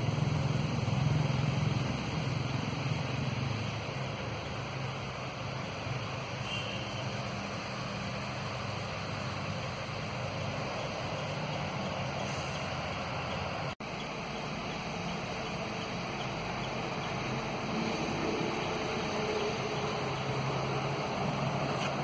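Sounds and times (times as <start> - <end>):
low rumbling background noise: 0.0 - 22.0.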